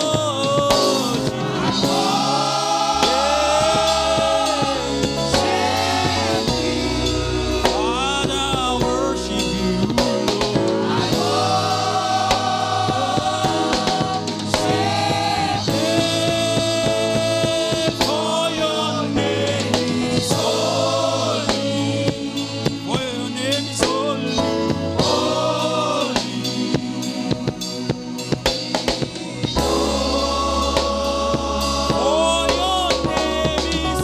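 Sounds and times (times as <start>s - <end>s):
band with drum kit and bass: 0.0s - 34.0s
choir singing in unison: 0.0s - 34.0s.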